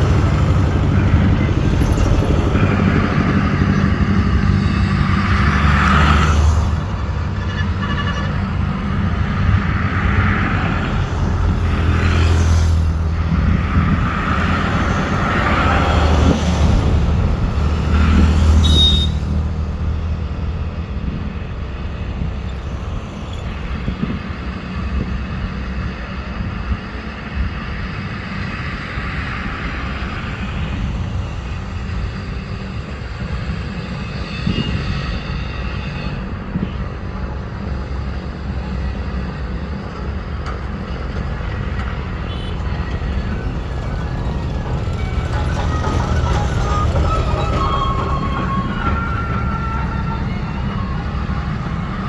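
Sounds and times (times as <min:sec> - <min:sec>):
excavator diesel engine running: 0:00.0 - 0:34.0, 0:37.2 - 0:52.0.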